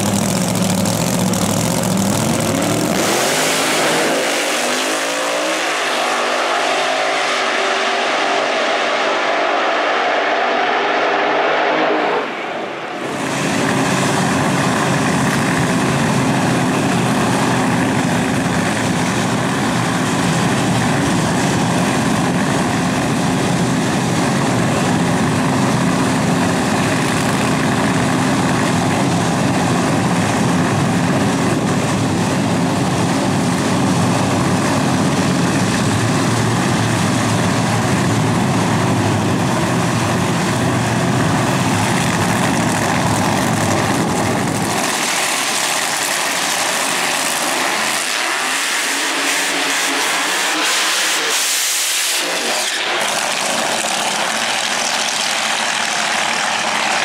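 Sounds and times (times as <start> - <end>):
drag-racing engine idling loudly: 0.0 - 10.0, 12.0 - 57.0.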